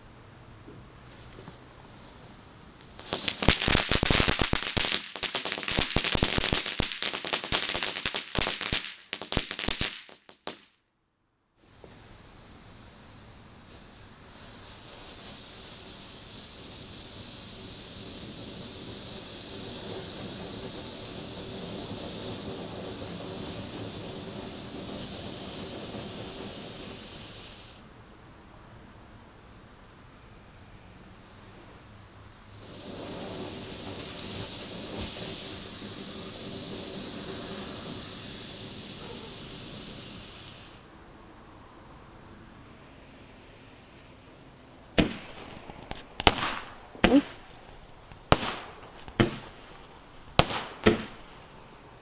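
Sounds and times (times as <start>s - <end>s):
fountain firework hissing: 1.0s - 10.6s, 11.6s - 27.8s, 30.9s - 52.0s
firework crackling pops: 1.0s - 10.8s, 11.6s - 27.8s, 31.3s - 40.9s, 44.9s - 52.0s.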